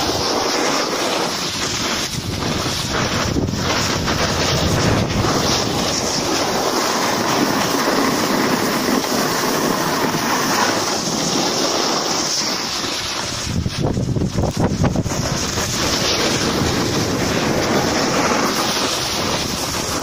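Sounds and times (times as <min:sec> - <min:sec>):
snow sliding and scraping: 0:00.0 - 0:20.0
wind buffeting microphone: 0:00.0 - 0:20.0.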